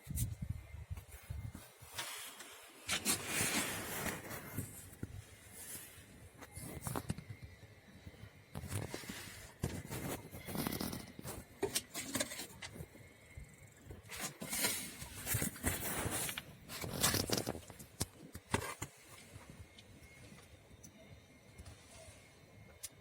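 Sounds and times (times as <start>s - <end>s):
rustling and scraping: 0.0s - 7.6s, 8.4s - 20.6s.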